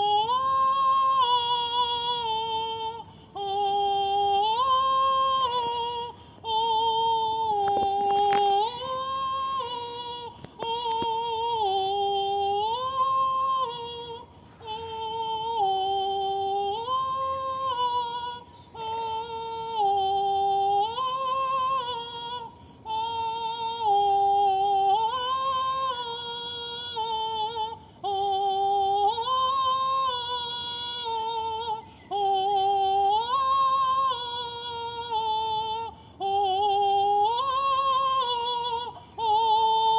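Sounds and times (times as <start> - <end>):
woman singing wordless vowels: 0.0 - 39.9.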